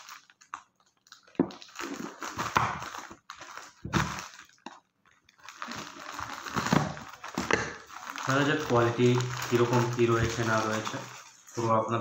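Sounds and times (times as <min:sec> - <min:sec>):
plastic packet crinkling: 0:00.0 - 0:11.8.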